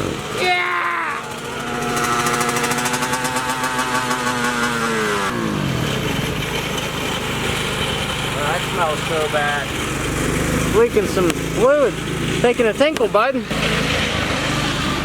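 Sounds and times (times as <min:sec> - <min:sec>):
dirt bike engine revving and idling: 0:00.0 - 0:15.0.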